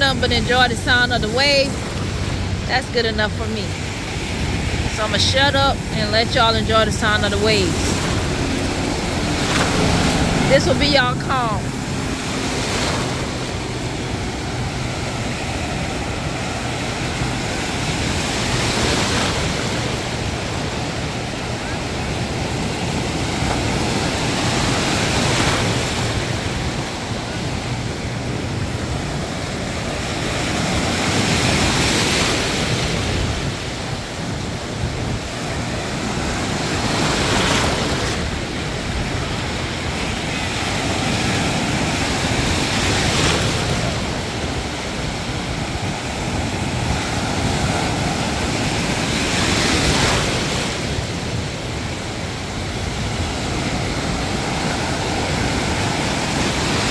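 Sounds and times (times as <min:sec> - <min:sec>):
waves breaking: 0:00.0 - 0:56.9.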